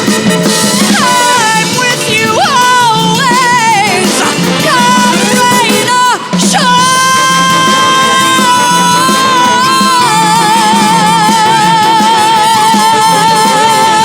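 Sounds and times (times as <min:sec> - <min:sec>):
small orchestra playing: 0:00.0 - 0:14.0
woman singing a long note: 0:00.9 - 0:14.0.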